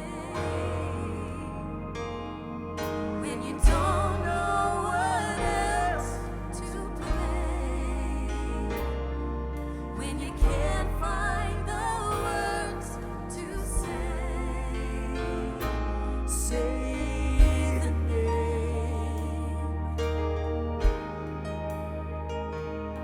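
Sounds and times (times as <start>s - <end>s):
live band playing slow song: 0.0s - 23.0s
person singing: 0.0s - 23.0s.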